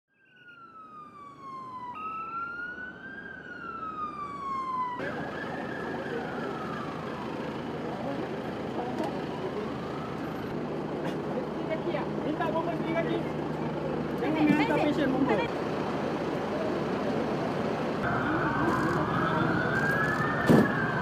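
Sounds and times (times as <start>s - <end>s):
emergency vehicle siren wailing: 0.1s - 21.0s.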